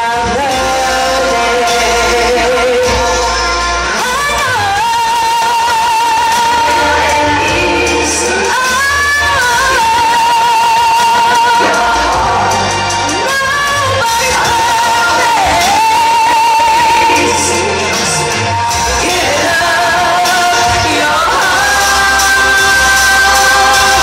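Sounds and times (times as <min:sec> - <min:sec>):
amplified backing music: 0:00.0 - 0:24.0
woman singing into microphone: 0:00.0 - 0:24.0.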